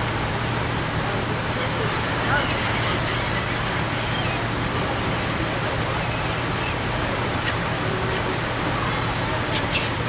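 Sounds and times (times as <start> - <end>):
boat engine hum: 0.0 - 10.0
rush of sea water and wind: 0.0 - 10.0.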